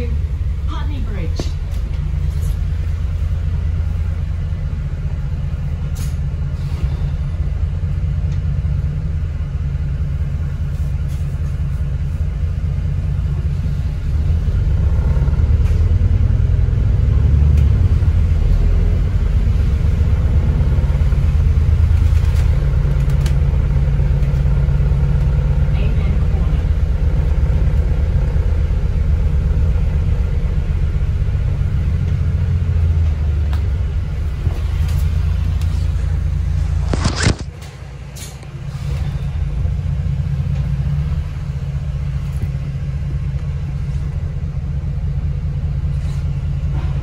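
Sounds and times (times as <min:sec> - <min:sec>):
bus engine and road rumble: 0:00.0 - 0:47.0.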